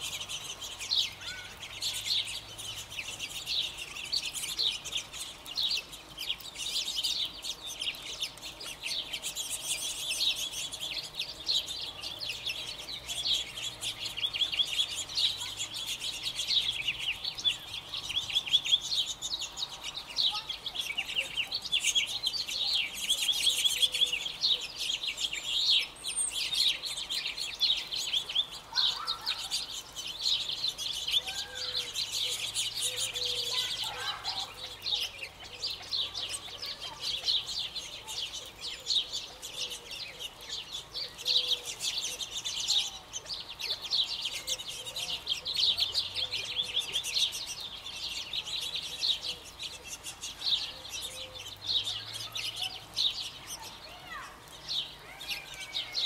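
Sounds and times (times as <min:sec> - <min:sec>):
birds chirping: 0:00.0 - 0:56.0
lower bird calls: 0:00.0 - 0:56.0.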